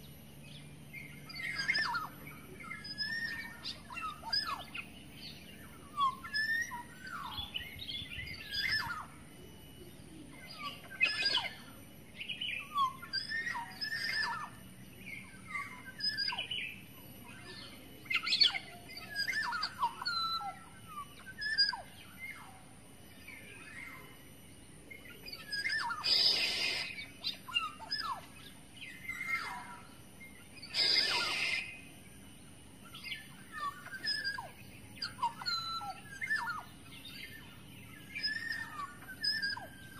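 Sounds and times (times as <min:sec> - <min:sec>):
bird singing whistled notes: 0:00.0 - 0:39.9
longer noisy bird sounds: 0:00.0 - 0:39.9.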